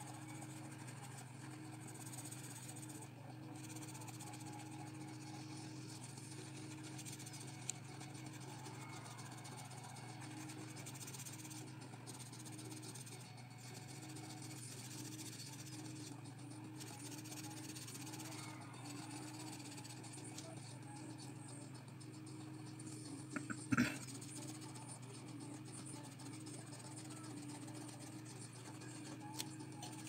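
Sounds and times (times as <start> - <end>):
low steady hum: 0.0 - 30.0
pencil scratching on paper: 0.0 - 30.0.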